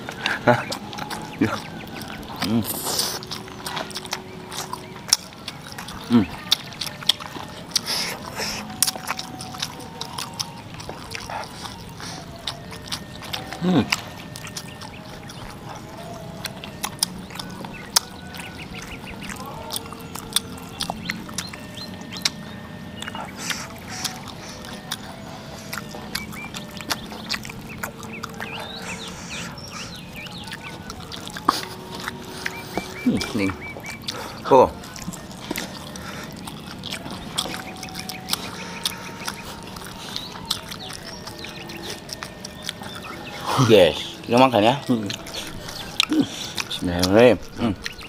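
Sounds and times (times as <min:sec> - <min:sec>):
mouth clicks and smacks chewing: 0:00.0 - 0:48.0.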